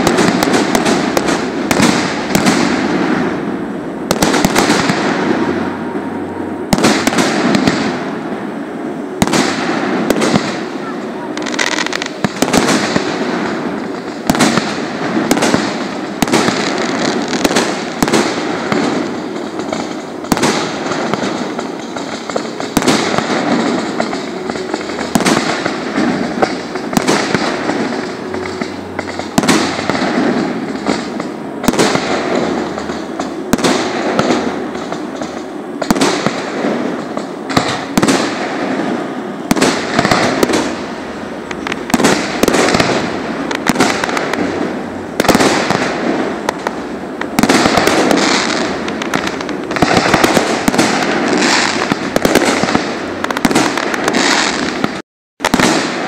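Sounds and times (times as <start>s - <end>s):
firework shells bursting: 0.0s - 5.8s, 6.6s - 56.0s
fireworks hiss and crackle: 0.0s - 56.0s.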